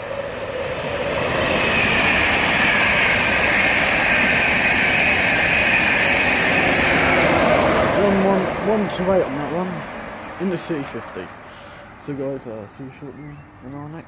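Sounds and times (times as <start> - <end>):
fast train passing: 0.0 - 13.6.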